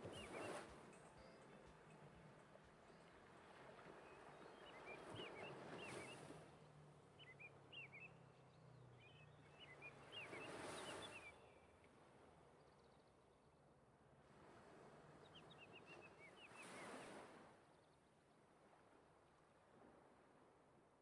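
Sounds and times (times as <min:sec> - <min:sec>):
faint birdsong chirps: 0:00.0 - 0:13.8, 0:15.2 - 0:18.4.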